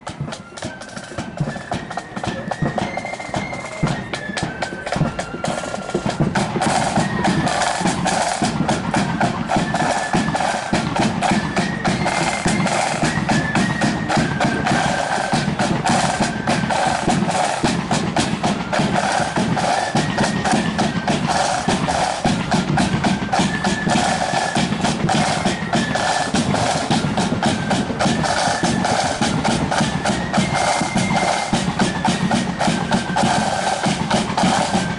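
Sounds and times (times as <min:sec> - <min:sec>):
flute band playing march: 0:00.0 - 0:34.9
snare drums rattling: 0:00.0 - 0:34.9.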